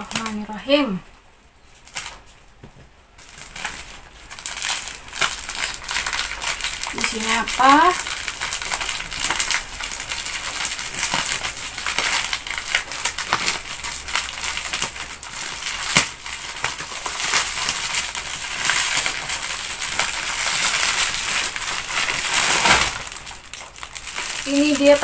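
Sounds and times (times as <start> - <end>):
plastic-wrapped contents rustling: 0.0 - 25.0
plastic mailer bag tearing: 3.2 - 25.0.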